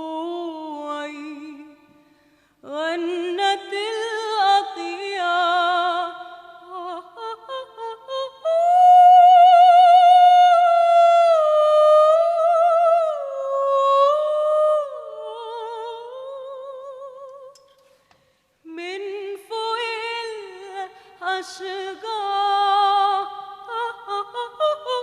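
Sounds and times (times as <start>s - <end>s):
woman singing wordless vocalise: 0.0s - 17.8s, 18.6s - 25.0s.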